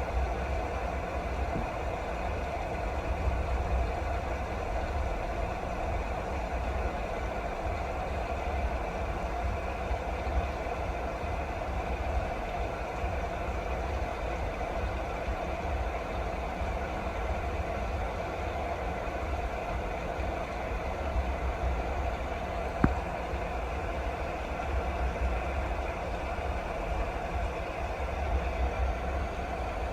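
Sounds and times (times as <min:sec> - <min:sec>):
steady rain: 0:00.1 - 0:29.9.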